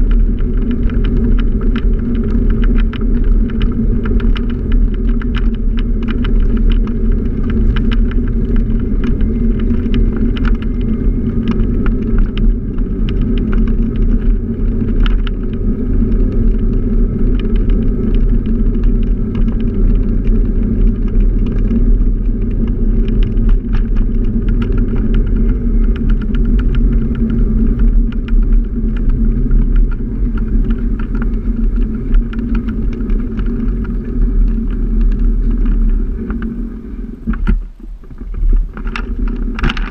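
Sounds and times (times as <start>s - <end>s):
motor scooter running: 0.0s - 39.9s.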